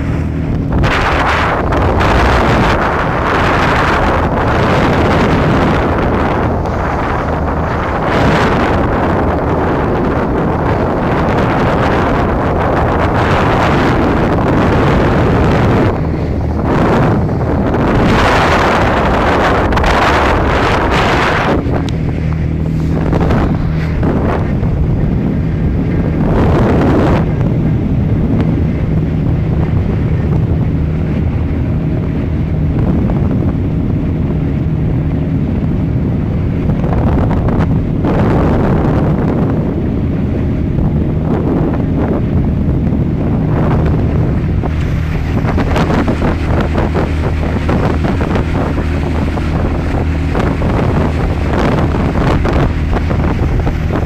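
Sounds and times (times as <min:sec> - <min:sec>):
motorboat engine drone: 0:00.0 - 0:54.0
water rushing past hull: 0:00.0 - 0:54.0
wind buffeting microphone: 0:00.0 - 0:54.0.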